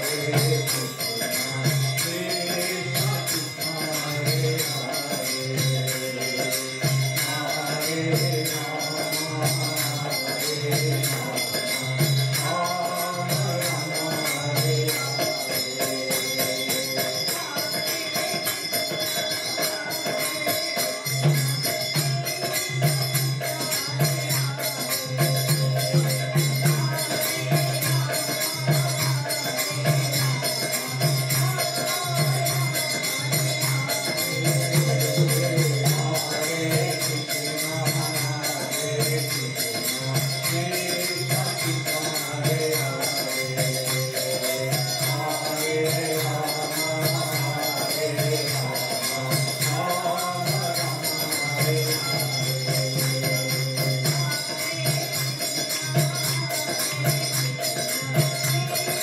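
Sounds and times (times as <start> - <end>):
call-and-response chanting: 0.0 - 59.0
drum beating steady rhythm: 0.0 - 59.0
harmonium: 0.0 - 59.0
small hand cymbals jingling: 0.0 - 59.0.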